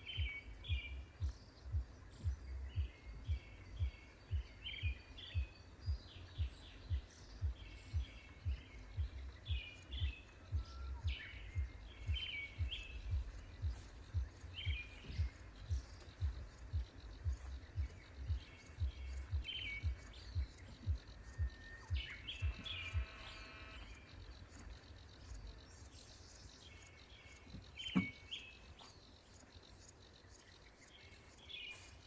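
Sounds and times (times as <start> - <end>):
dull low thumps: 0.0 - 26.0
songbirds chirping: 0.0 - 32.0.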